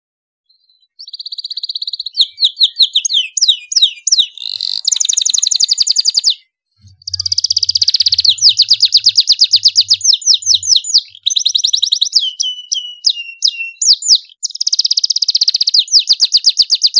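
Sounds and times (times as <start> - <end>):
canary singing trills: 0.5 - 16.9.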